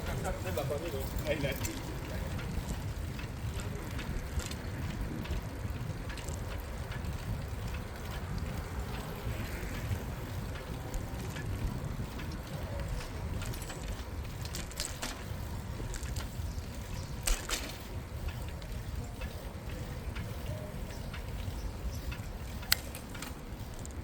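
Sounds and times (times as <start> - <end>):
sharp bicycle clicks: 0.0 - 24.0
wind and tyre noise: 0.0 - 24.0.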